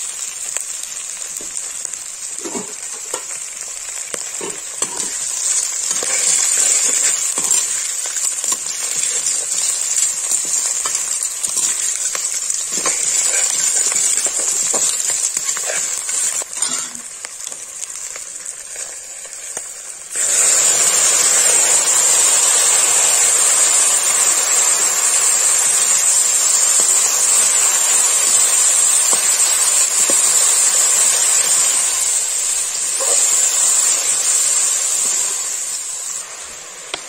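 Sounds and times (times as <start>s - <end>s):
food sizzling in pan: 0.0s - 37.0s.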